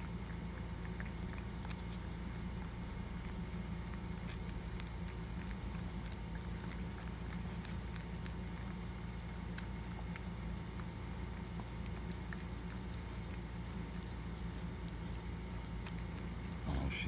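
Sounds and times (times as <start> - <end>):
dog licking wet clicks: 0.0 - 16.7
steady low hum: 0.0 - 17.0.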